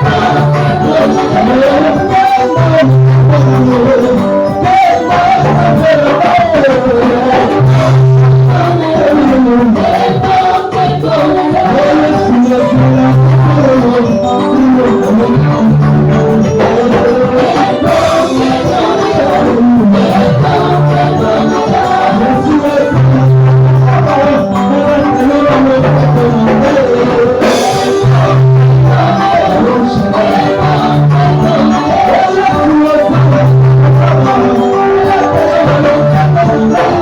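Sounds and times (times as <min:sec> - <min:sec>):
bass line holding long notes: 0:00.0 - 0:37.0
worship singing: 0:00.0 - 0:37.0.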